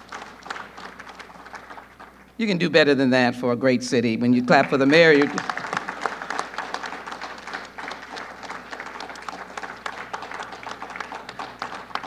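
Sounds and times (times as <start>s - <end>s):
crowd applauding: 0.0s - 2.4s, 4.3s - 12.0s.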